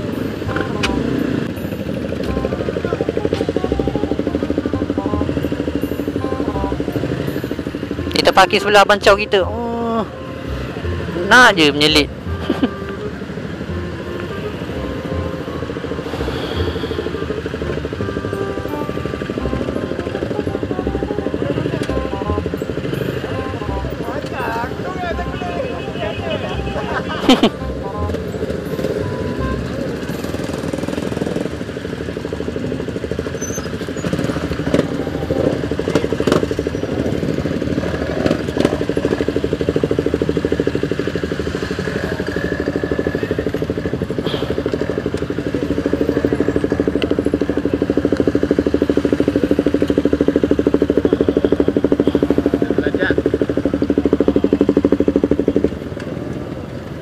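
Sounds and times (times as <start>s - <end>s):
motorcycle engine idling: 0.0s - 57.0s
other motorcycles running: 0.0s - 57.0s.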